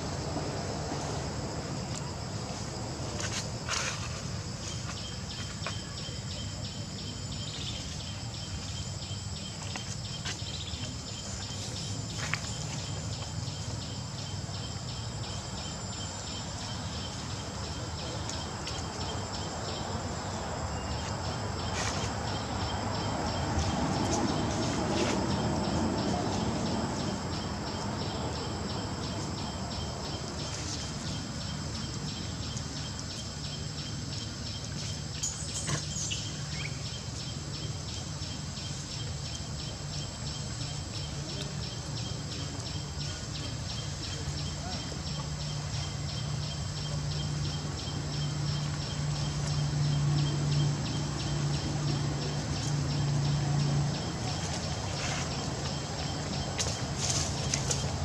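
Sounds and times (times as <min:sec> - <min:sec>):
insects chirring: 0:00.0 - 0:58.0
pulsing insect trill: 0:00.0 - 0:58.0.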